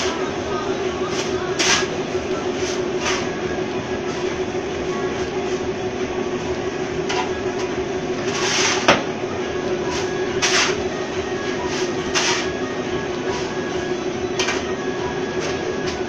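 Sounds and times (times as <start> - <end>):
ice crusher machine humming: 0.0 - 16.0.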